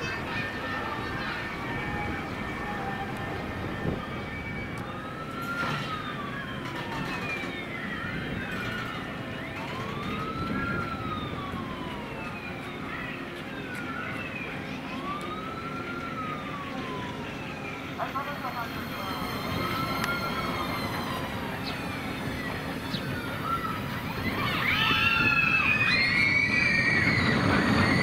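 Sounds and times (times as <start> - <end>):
street background noise: 0.0 - 28.0
siren wailing: 0.1 - 28.0.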